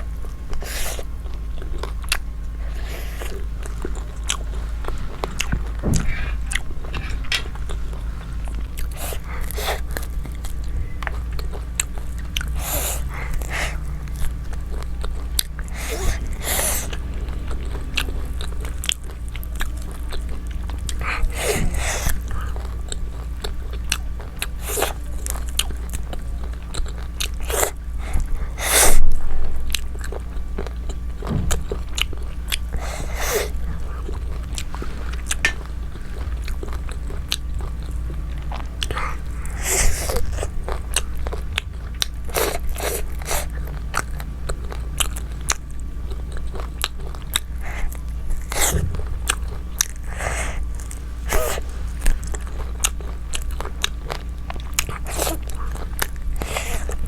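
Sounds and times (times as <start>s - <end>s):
biting and chewing food: 0.0s - 57.0s
steady low hum: 0.0s - 57.0s.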